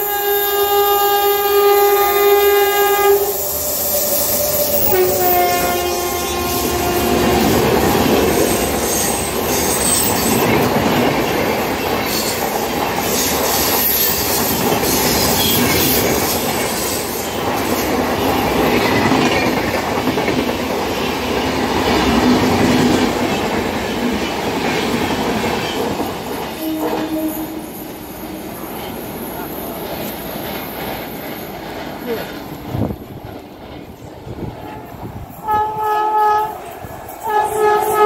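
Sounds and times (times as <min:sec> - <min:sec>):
train wheels running on rails: 0:00.0 - 0:38.0.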